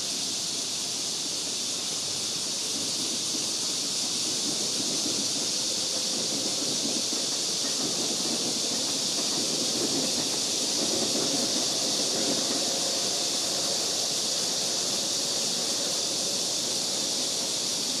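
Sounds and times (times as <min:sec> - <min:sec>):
high-pitched hiss: 0:00.0 - 0:18.0.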